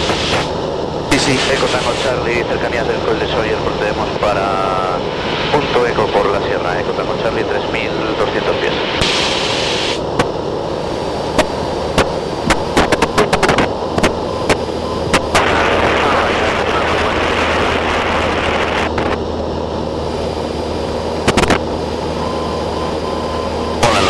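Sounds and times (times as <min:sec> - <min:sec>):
airplane engine and propeller drone: 0:00.0 - 0:24.0.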